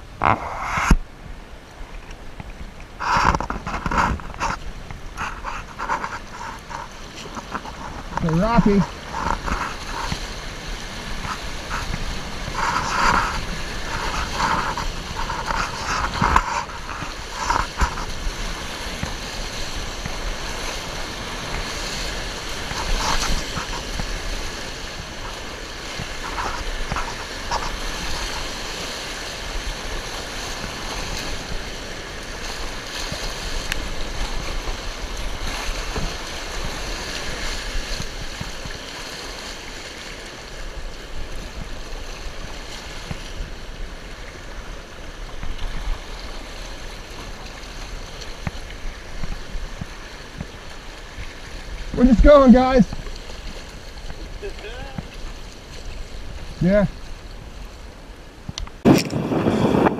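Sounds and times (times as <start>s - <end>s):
river rapids rushing: 2.2s - 59.9s.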